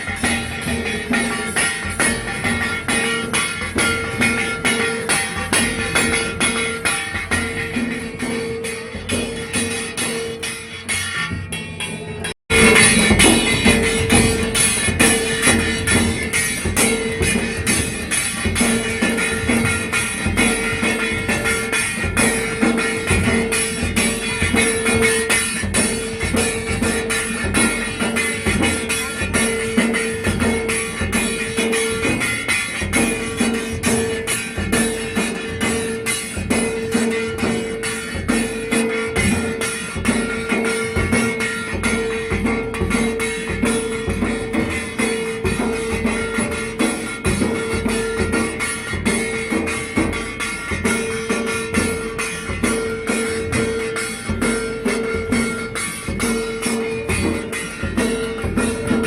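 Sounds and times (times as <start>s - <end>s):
dhol drums beating fast: 0.0s - 59.0s
jingling metal percussion: 0.0s - 59.0s
steady held tone: 0.0s - 59.0s.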